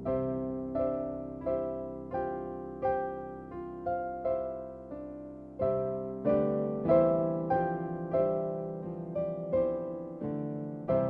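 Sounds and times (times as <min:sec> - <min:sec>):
soft piano chords: 0:00.0 - 0:11.0.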